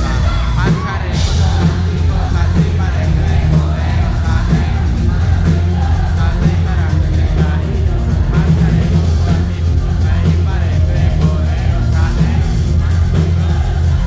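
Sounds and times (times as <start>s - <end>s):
heavy steady bass: 0.0s - 14.0s
live pop-rock band music: 0.0s - 14.0s.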